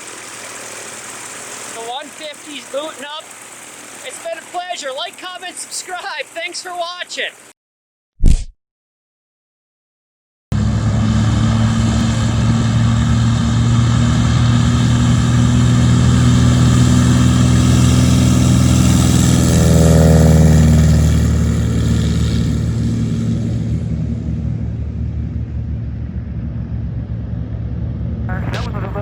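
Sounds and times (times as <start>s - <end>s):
light aircraft piston engine: 0.0s - 7.5s, 10.5s - 29.0s.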